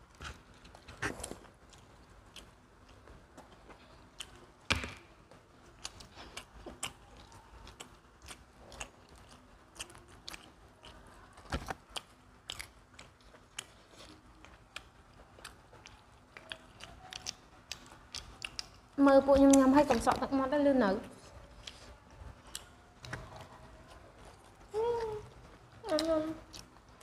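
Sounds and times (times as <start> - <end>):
chewing and biting pizza: 0.1 - 4.6, 5.2 - 19.6, 21.2 - 27.0.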